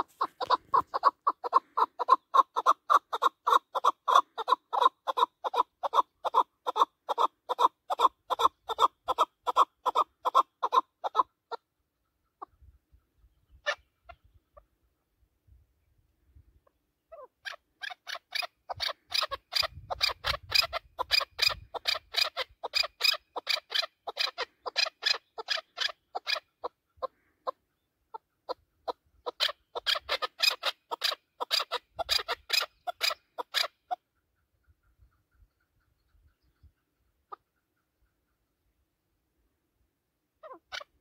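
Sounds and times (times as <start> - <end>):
partridge clucking calls: 0.0 - 14.9, 16.7 - 38.6, 40.4 - 41.0.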